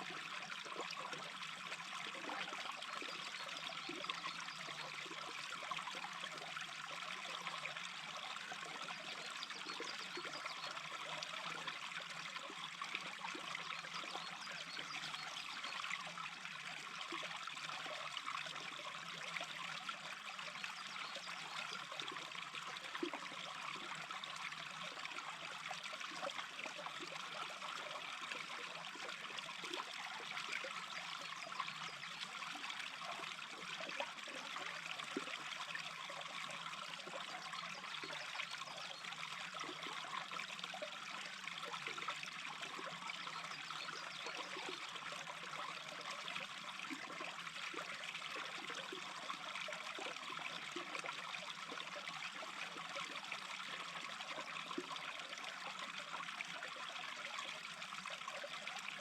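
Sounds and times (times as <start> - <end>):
small stream babbling: 0.0 - 59.0.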